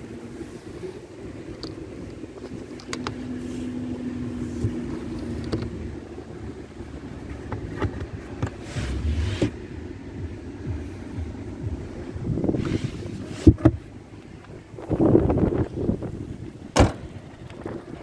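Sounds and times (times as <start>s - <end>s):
steady hum: 0.0s - 18.0s
steady low rumble: 0.0s - 18.0s.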